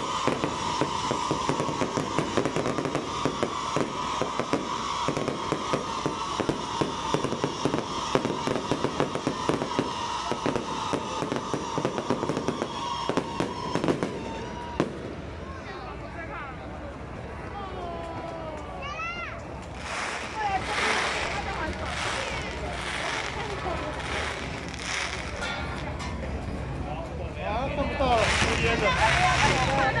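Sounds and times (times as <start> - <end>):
fireworks crackling and popping: 0.0 - 16.3, 17.0 - 30.0.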